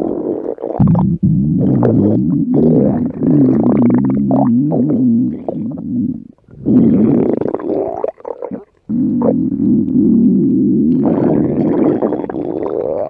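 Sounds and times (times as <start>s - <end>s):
stomach rumbling: 0.0s - 13.0s.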